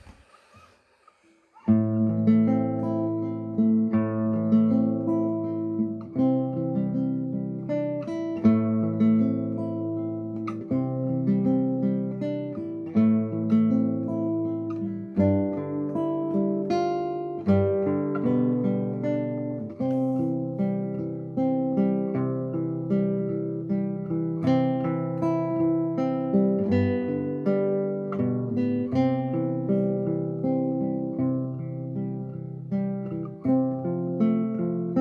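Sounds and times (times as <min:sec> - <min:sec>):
fingerstyle classical guitar: 0:00.0 - 0:35.0.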